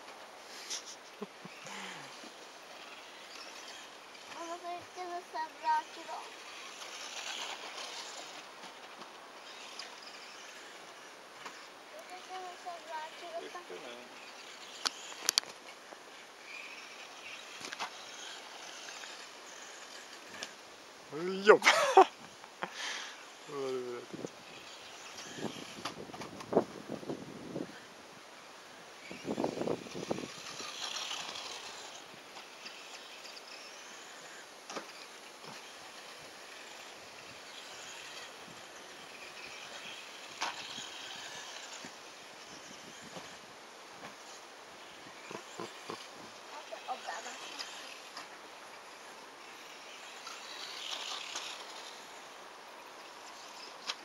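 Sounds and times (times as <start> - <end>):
outdoor background noise: 0.0 - 54.0
small motor whining: 0.0 - 54.0.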